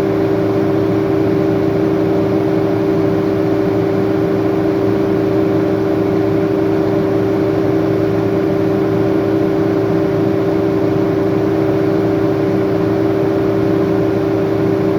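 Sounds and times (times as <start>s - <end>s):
diesel engine running steadily: 0.0s - 14.9s.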